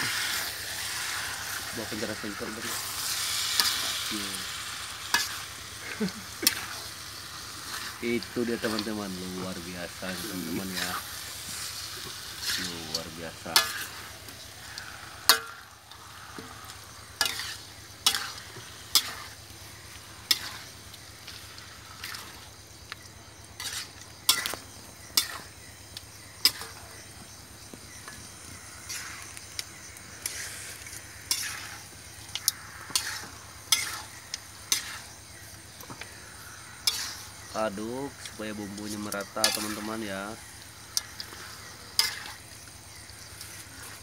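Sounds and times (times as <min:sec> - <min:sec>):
metal spatula scraping wok: 0:00.0 - 0:09.0, 0:10.6 - 0:22.5, 0:23.5 - 0:25.8, 0:26.4 - 0:27.1, 0:27.9 - 0:37.5, 0:38.1 - 0:44.0
meat sizzling in a wok: 0:00.0 - 0:44.0.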